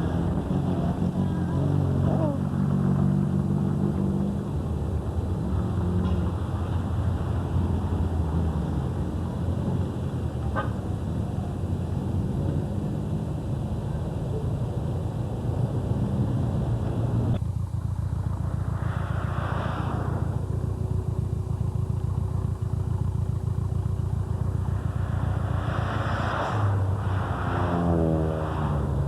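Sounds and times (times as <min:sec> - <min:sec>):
engine exhaust rumbling: 0:00.0 - 0:29.0.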